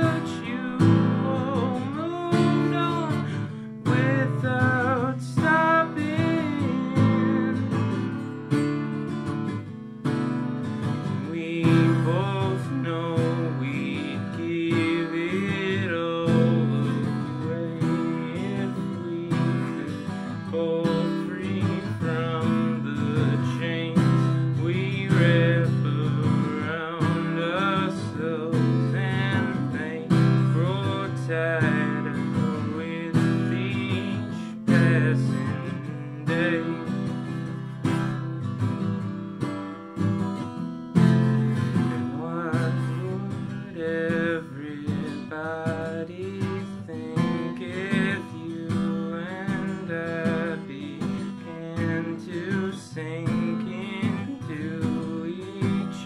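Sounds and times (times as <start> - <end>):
acoustic guitar: 0.0 - 56.0.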